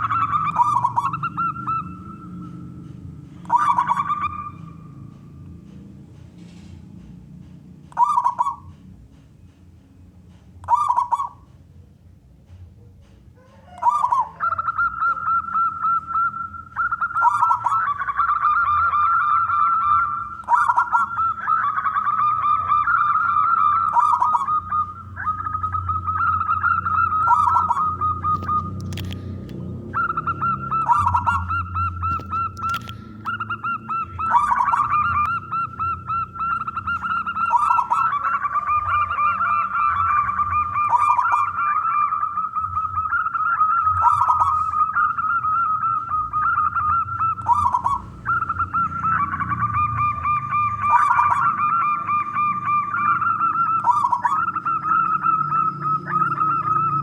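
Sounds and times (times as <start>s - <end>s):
dove cooing: 0.0s - 9.0s, 10.6s - 11.6s, 12.8s - 57.0s.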